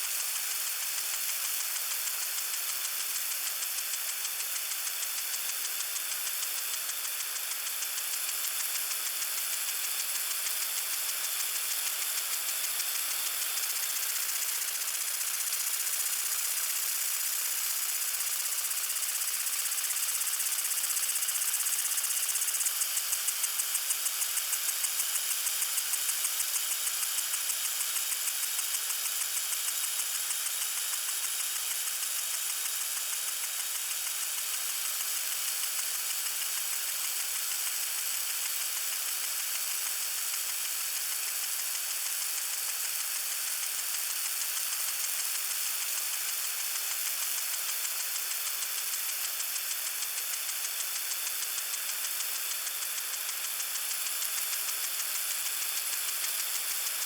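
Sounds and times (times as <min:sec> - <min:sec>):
lawn sprinkler ticking and spraying: 0:00.0 - 0:57.0.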